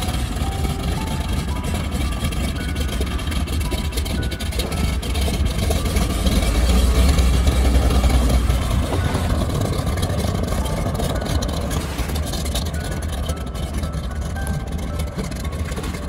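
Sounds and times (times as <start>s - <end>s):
floatplane propeller engine running: 0.0s - 16.0s.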